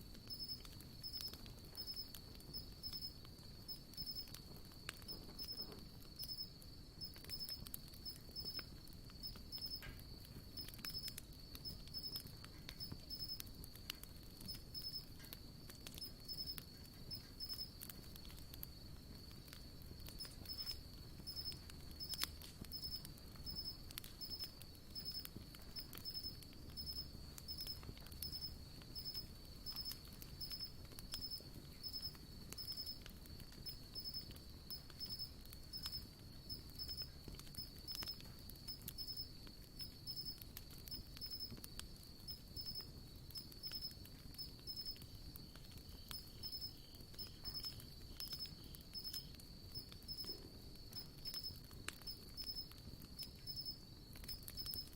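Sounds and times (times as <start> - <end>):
campfire crackling and popping: 0.0 - 54.9
insects chirping: 0.0 - 54.9.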